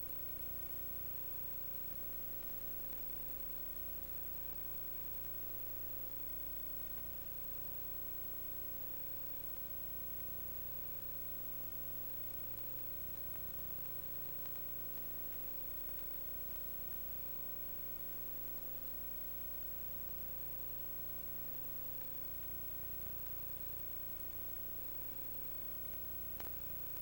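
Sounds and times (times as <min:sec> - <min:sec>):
electrical hum: 0:00.0 - 0:27.0
steady hiss: 0:00.0 - 0:27.0
thin steady tone: 0:00.0 - 0:27.0.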